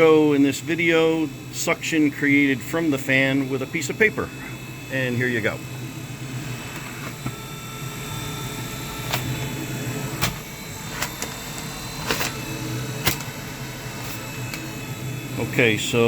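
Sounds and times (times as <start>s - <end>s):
exhaust fan humming: 0.0s - 16.0s.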